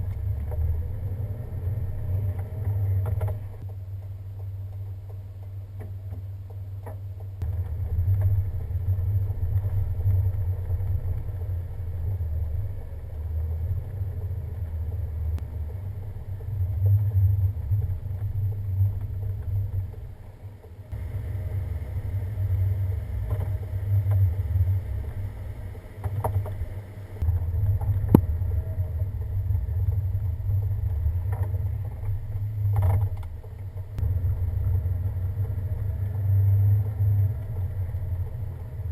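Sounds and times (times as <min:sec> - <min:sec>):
vehicle rumbling on snowy road: 0:00.0 - 0:38.9.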